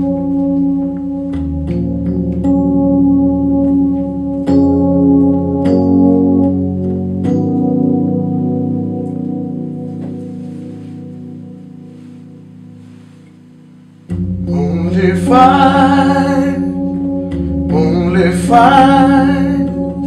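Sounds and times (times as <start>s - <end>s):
synthesizer sustained chords: 0.0s - 20.0s.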